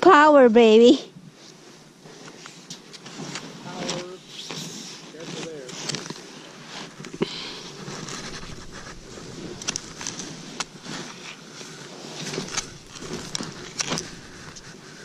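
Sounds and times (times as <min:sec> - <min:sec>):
skis crunching through snow: 0:01.4 - 0:15.0.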